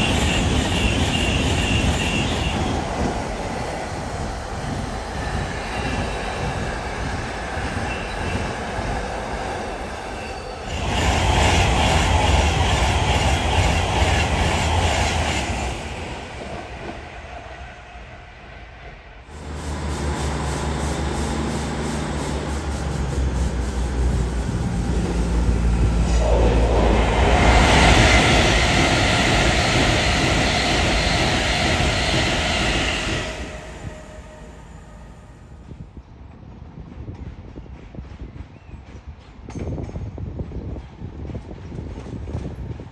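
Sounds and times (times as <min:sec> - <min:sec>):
diesel train running on track: 0:00.0 - 0:42.9.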